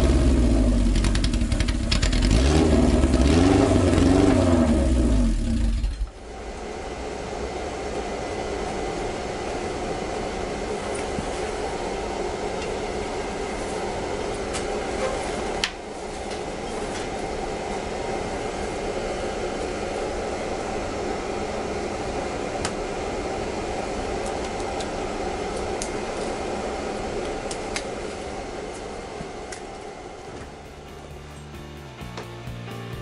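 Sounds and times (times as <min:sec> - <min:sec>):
mechanical running noise: 0:03.0 - 0:31.8.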